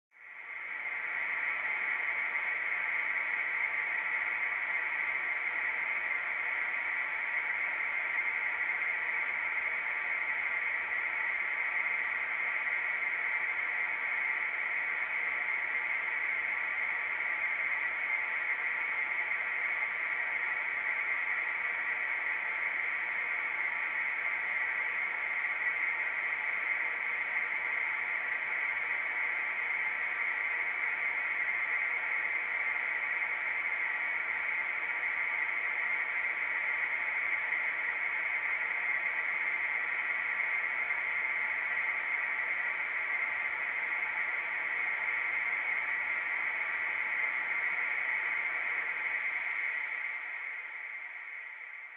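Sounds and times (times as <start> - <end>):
static hiss: 0.4 - 51.9.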